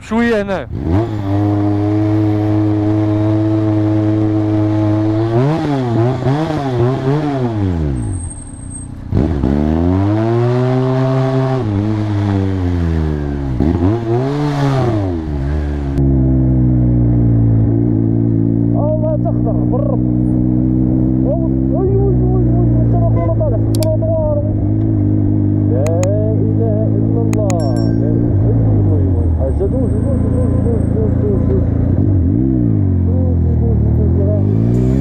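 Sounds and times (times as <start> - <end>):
motorcycle engine revving: 0.6 - 35.0.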